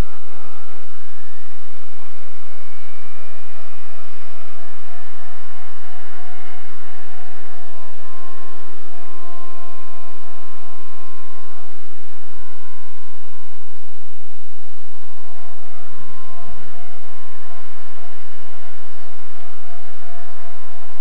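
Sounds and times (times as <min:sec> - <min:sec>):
rc helicopter motor and rotors whining: 0:00.0 - 0:21.0.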